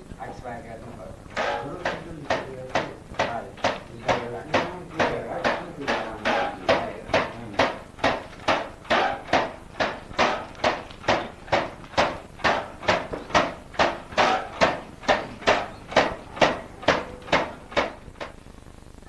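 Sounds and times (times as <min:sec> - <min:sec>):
rhythmic ringing knocks: 0:01.3 - 0:18.7.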